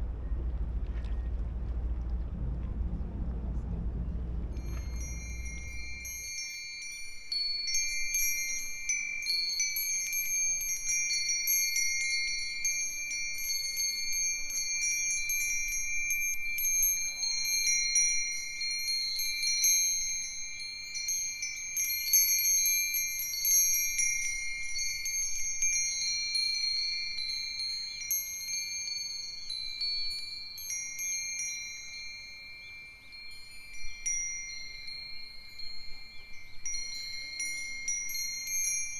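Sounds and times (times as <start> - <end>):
wind chimes tinkling: 1.8 - 38.9.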